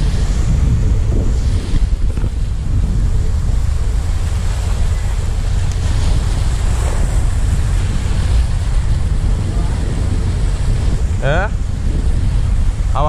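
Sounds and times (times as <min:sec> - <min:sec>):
small waves washing on rocks: 0:00.0 - 0:13.0
wind buffeting microphone: 0:00.0 - 0:13.0.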